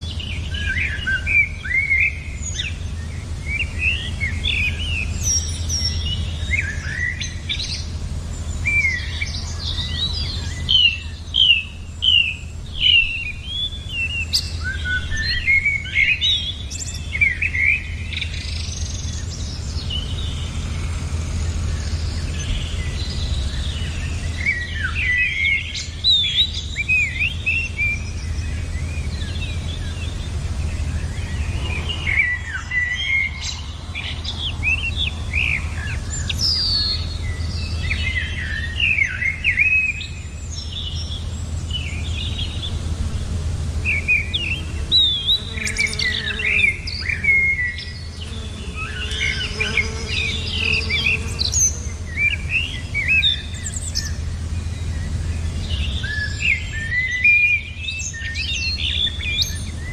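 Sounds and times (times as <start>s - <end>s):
small birds chirping: 0.0s - 59.9s
steady low hum: 0.0s - 59.9s.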